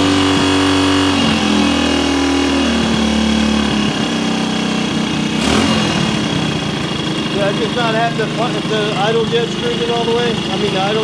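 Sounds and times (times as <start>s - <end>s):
motorcycle engine running: 0.0s - 11.0s
sharp engine knock: 0.0s - 11.0s.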